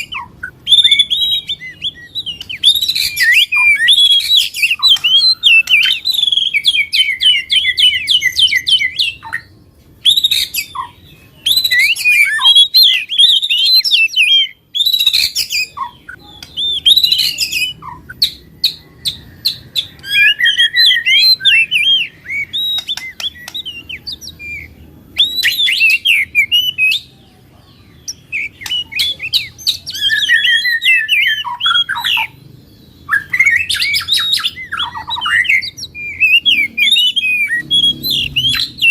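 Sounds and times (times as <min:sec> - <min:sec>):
recorded songbird chirps and trills: 0:00.0 - 0:38.9.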